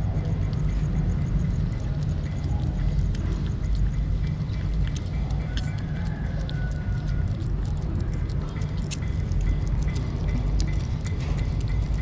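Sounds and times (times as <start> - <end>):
kittens chewing wet food: 0.0 - 12.0
steady low rumble: 0.0 - 12.0.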